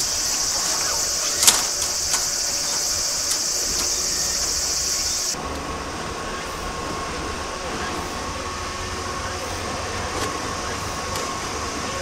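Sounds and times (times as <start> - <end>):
faint steady whine: 0.0 - 12.0
insects droning: 0.0 - 12.0.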